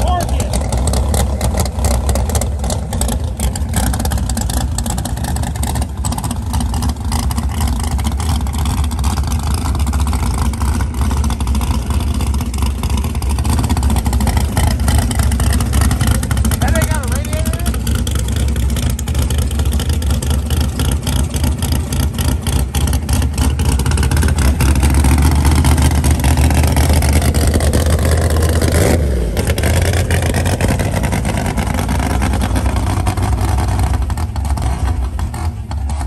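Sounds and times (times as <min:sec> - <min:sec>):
vee eight engine choppy idle: 0:00.0 - 0:36.0.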